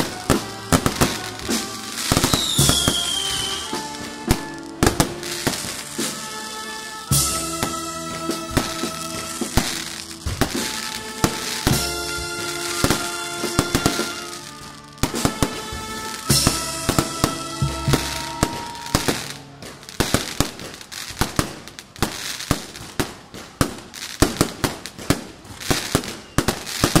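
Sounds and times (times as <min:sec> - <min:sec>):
fireworks bangs and crackles: 0:00.0 - 0:27.0
music: 0:00.0 - 0:27.0.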